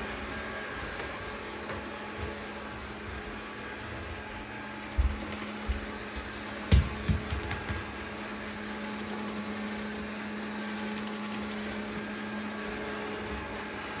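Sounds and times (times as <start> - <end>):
robot vacuum cleaner running: 0.0 - 14.0.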